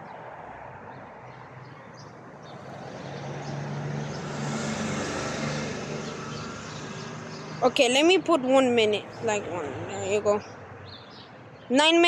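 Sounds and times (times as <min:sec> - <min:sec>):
vehicle engine hum: 0:00.0 - 0:11.5.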